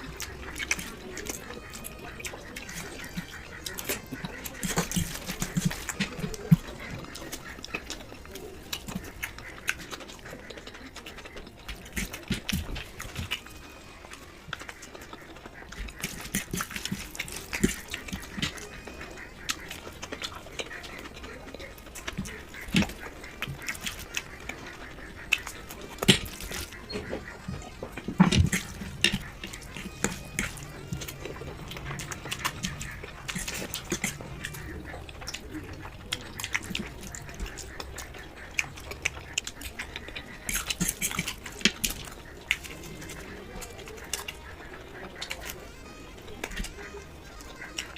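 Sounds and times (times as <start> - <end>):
chewing and mouth smacks: 0.0 - 47.9.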